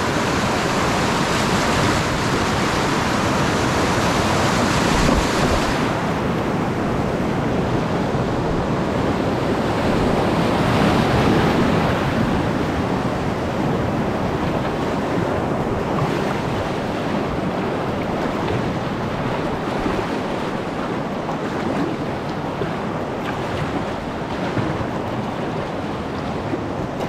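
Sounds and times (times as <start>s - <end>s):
whitewater rushing: 0.0s - 27.0s.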